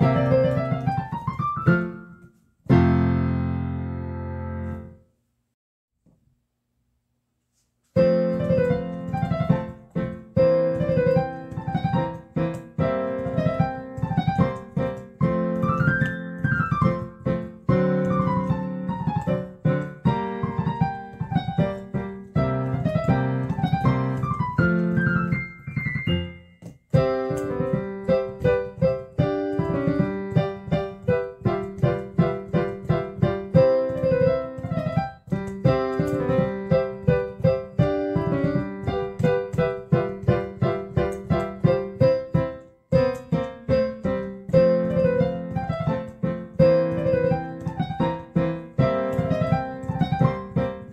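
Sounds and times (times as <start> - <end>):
piano music: 0.0 - 5.0, 8.0 - 50.9.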